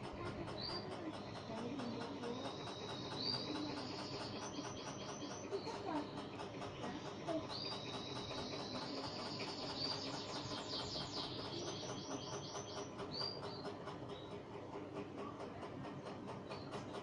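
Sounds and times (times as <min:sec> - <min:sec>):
bird chirping: 0:00.5 - 0:14.4.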